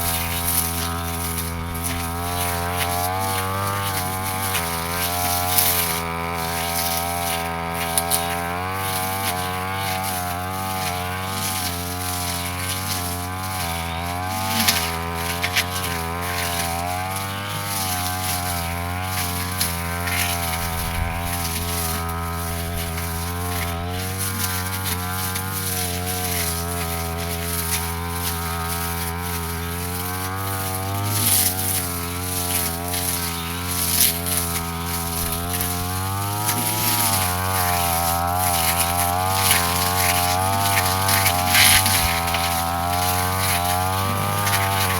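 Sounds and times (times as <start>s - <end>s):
brush cutter engine cutting grass: 0.0s - 44.9s.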